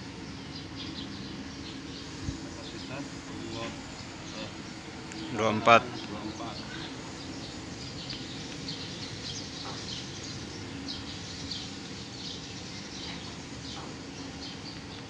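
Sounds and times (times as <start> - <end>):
low mechanical hum: 0.0 - 15.0
small birds chirping: 0.0 - 15.0.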